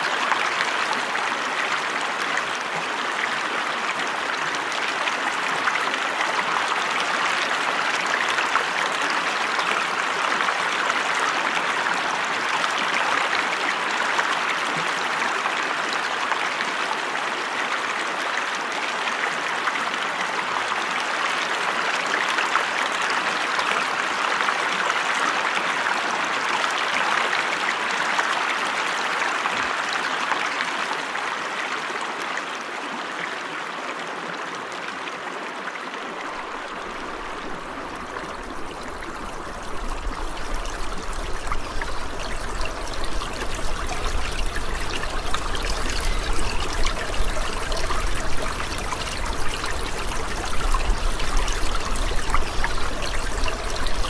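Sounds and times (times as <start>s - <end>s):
creek rushing over stones: 0.0s - 54.0s.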